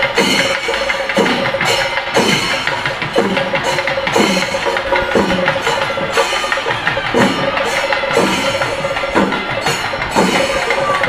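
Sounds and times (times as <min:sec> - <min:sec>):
deep drum strikes: 0:00.0 - 0:11.0
fast tapping rhythm: 0:00.0 - 0:11.0.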